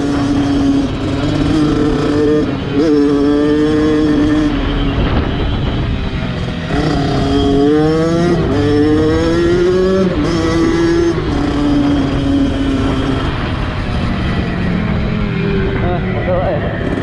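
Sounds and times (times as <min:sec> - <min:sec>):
dirt bike engine accelerating: 0:00.0 - 0:17.0.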